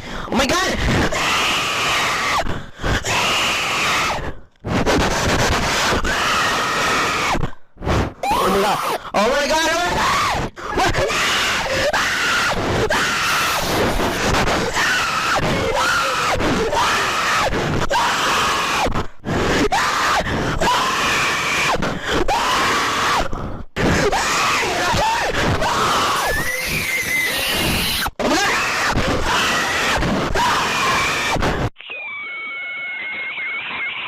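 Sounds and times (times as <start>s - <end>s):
screaming wailing voices: 0.9s - 4.3s, 5.6s - 7.4s, 8.2s - 33.8s.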